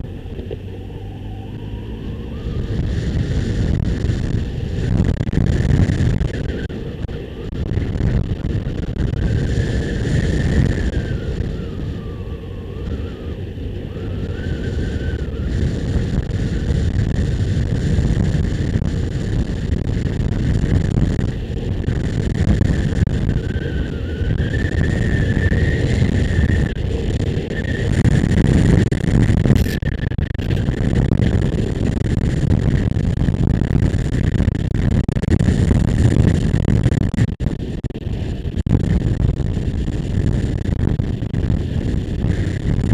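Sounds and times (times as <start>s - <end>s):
motorcycle running: 0.0s - 42.9s
wavering high whine: 0.0s - 42.9s
wind buffeting microphone: 0.0s - 42.9s.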